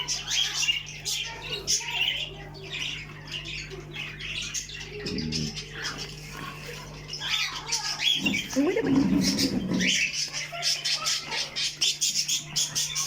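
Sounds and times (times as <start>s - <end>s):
caged birds chirping and squawking: 0.0s - 13.0s.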